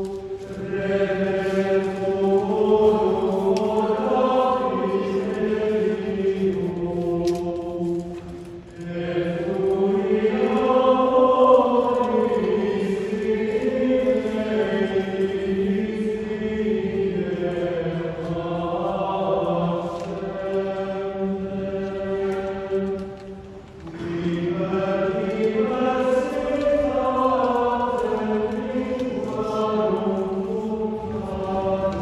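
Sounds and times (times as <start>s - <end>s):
choir singing a chant: 0.0s - 32.0s.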